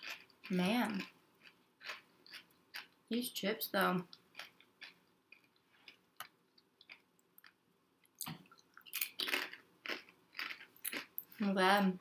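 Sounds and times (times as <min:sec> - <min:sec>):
person chewing chips: 0:00.0 - 0:03.0, 0:04.1 - 0:11.4.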